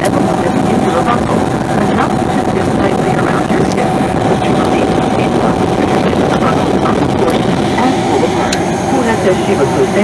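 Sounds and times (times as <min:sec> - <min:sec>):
turboprop engines droning: 0:00.0 - 0:10.0.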